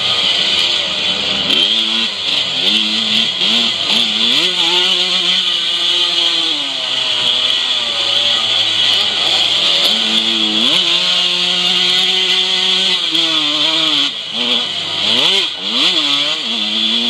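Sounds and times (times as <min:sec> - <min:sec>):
two-stroke motocross bike engine revving: 0:00.0 - 0:17.0.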